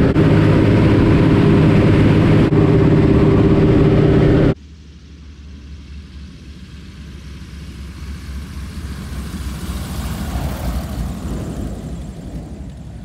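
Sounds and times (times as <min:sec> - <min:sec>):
propeller plane engine rumble: 0:00.0 - 0:13.0.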